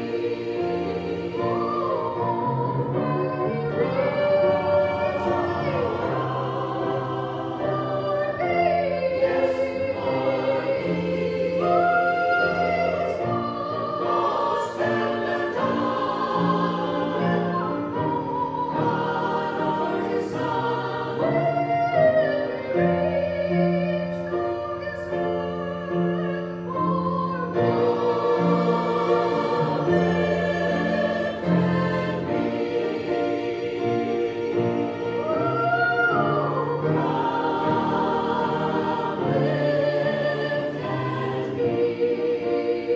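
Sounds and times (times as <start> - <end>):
sustained accompaniment: 0.0 - 42.9
voices singing a slow hymn: 0.0 - 42.9.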